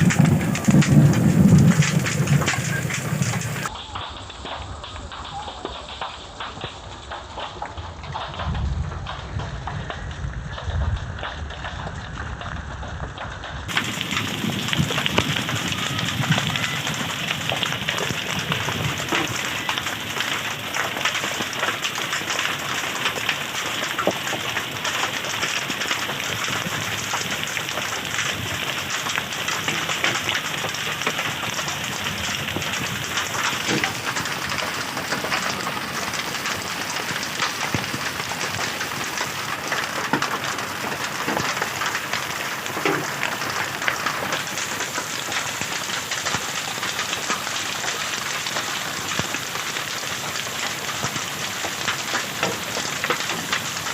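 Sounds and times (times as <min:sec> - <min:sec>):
hailstones clicking: 0:00.0 - 0:53.9
heavy rain hissing: 0:00.0 - 0:53.9.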